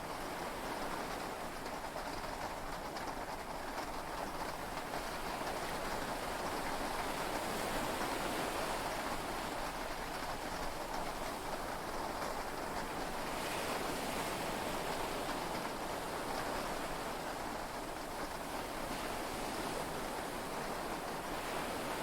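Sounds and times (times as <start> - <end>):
heavy rain on a boat: 0.0 - 22.0.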